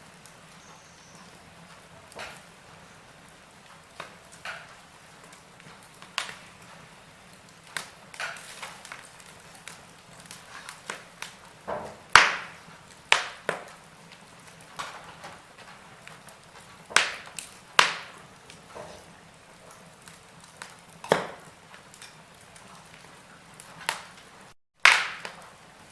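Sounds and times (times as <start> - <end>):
wood fire crackling and popping: 0.0 - 25.9.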